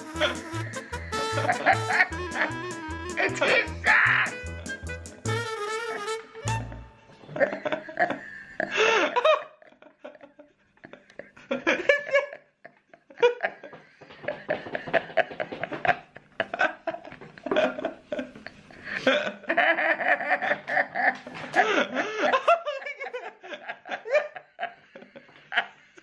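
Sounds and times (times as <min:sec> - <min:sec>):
woman laughing in bursts: 0:00.0 - 0:04.7, 0:07.3 - 0:25.7.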